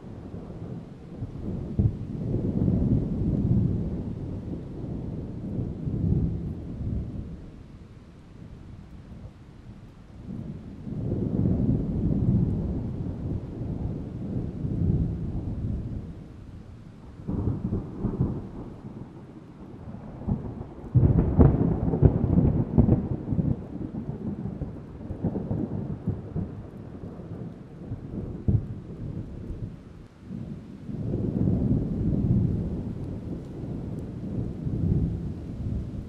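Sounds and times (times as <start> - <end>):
distant thunder rumbling: 0.0 - 7.6, 10.2 - 16.3, 17.2 - 36.0
soft steady rain: 0.0 - 36.0.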